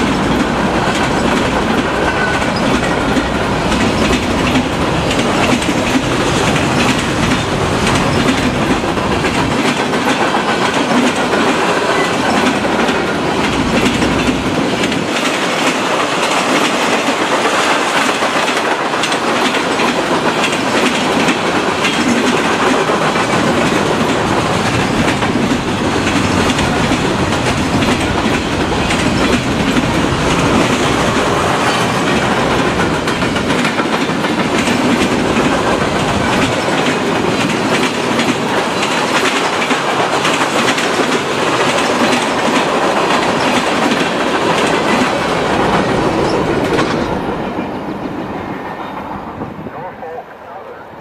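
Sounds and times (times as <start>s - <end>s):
train wheels clattering on rails: 0.0s - 49.6s.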